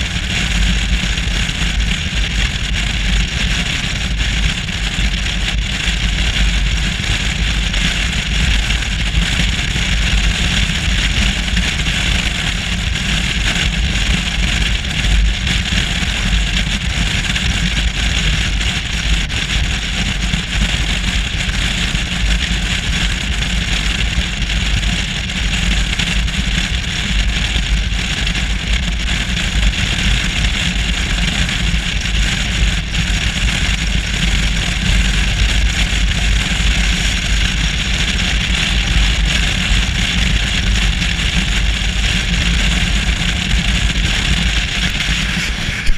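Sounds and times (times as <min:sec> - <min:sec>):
motorcycle engine rumble: 0:00.0 - 0:45.9
wind and road noise: 0:00.0 - 0:45.9
wind on microphone: 0:00.0 - 0:45.9.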